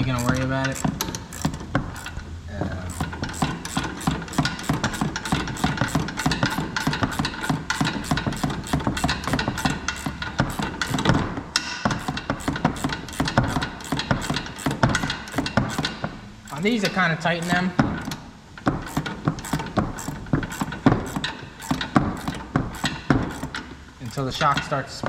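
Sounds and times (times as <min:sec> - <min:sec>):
ratchet wrench clicking: 0:00.0 - 0:02.2, 0:02.9 - 0:11.1, 0:11.9 - 0:24.7.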